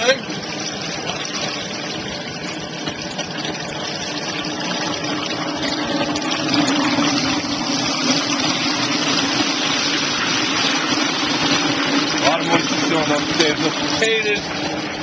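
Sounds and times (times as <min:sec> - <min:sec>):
oil sizzling and bubbling: 0:00.0 - 0:15.0
steady low hum: 0:00.0 - 0:15.0.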